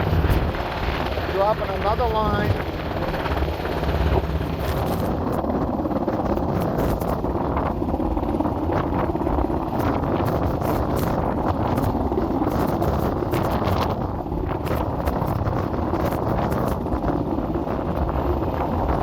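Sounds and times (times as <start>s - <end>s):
helicopter hovering: 0.0s - 19.0s
wind buffeting microphone: 0.0s - 19.0s.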